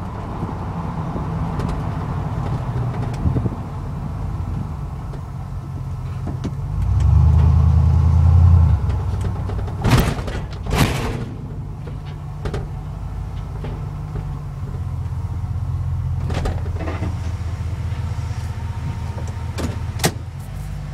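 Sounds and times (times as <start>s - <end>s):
pickup truck engine hum: 0.0s - 20.9s.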